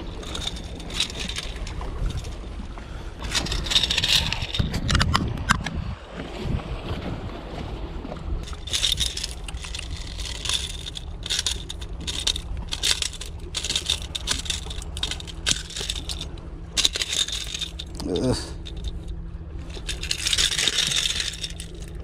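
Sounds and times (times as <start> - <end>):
metal hooks rattling: 0.0 - 2.4, 3.2 - 5.1, 8.4 - 22.0
steady low rumble: 0.0 - 22.0.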